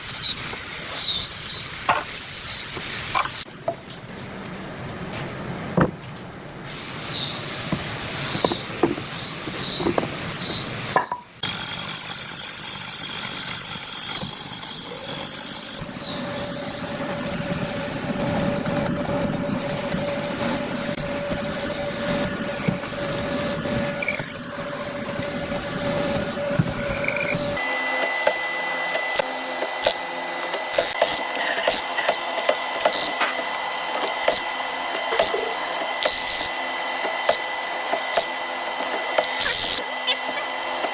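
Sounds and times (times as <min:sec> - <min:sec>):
power tools whining: 0:06.7 - 0:40.9.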